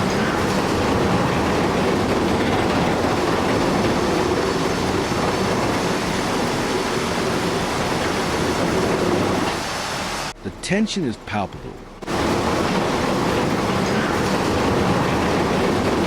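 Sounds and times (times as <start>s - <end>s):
heavy machinery rumbling: 0.0s - 16.0s.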